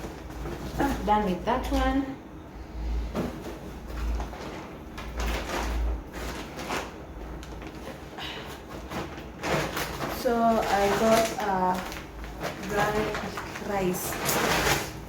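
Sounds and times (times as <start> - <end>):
grocery packaging rustling: 0.0 - 2.2, 2.8 - 15.0.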